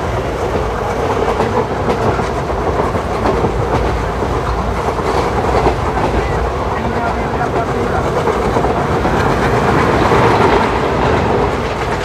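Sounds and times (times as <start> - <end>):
train coaches rumbling and rattling: 0.0 - 12.0
wheels clicking over track: 0.0 - 12.0.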